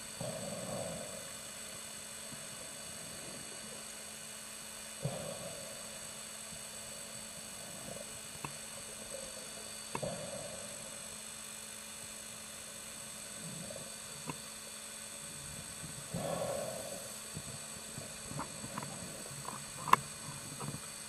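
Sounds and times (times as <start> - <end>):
regulator breathing hiss: 0.0 - 21.0.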